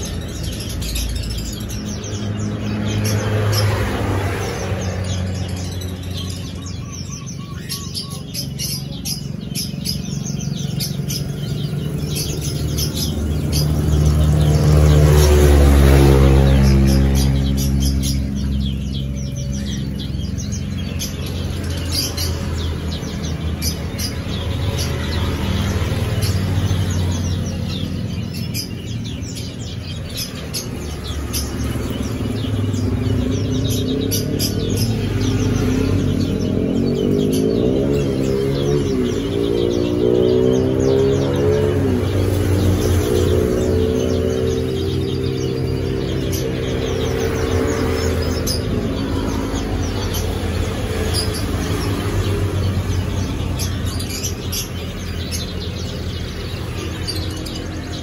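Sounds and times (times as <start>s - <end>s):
small birds chirping: 0.0s - 58.0s
vehicle engine humming: 0.0s - 58.0s.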